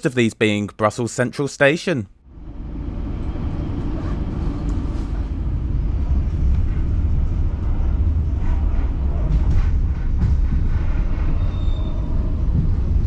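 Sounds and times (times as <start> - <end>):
train wheels rumbling on rails: 2.3 - 13.0.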